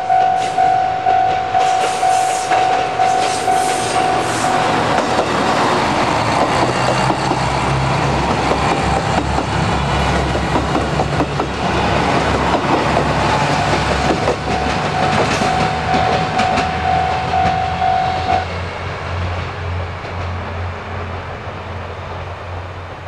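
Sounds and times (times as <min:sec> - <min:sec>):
train wheels clicking over rail joints: 0:00.1 - 0:20.5.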